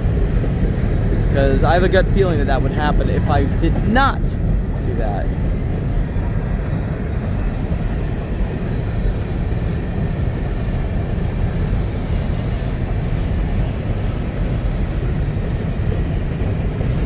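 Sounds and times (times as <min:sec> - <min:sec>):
freight train cars rolling past: 0:00.0 - 0:17.0.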